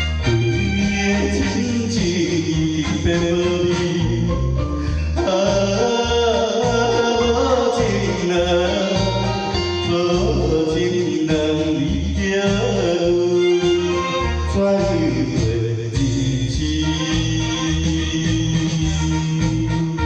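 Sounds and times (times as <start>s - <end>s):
karaoke ballad backing music: 0.0s - 20.0s.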